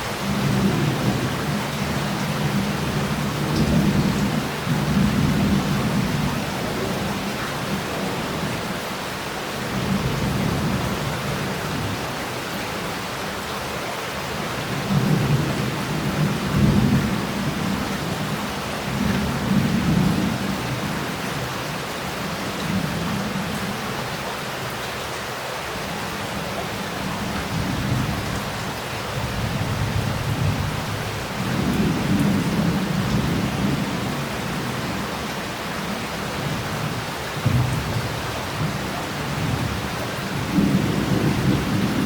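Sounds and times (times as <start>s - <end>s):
heavy rain hissing: 0.0s - 42.0s.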